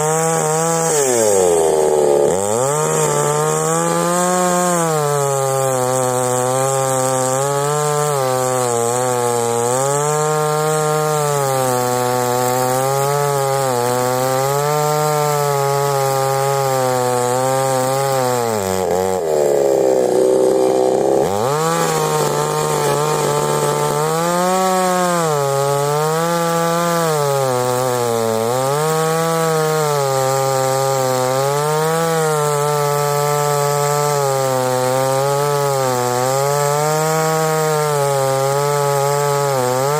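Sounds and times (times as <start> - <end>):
chainsaw ripping a log: 0.0 - 39.9.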